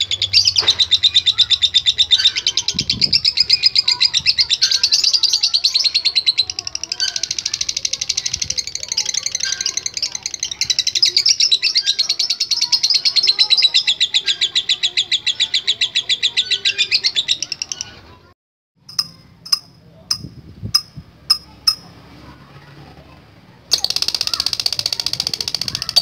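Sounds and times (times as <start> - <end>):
lovebird chatter: 0.0 - 18.2, 18.9 - 22.0, 23.7 - 26.0.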